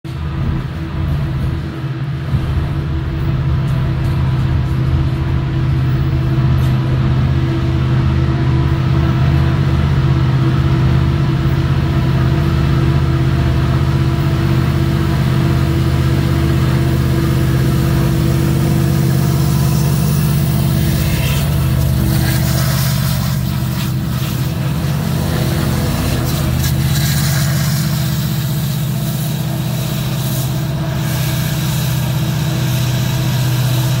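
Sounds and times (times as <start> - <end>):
diesel locomotive engines droning: 0.1 - 34.0
train cars rumbling: 0.1 - 34.0
wheel and rail noise: 0.1 - 34.0.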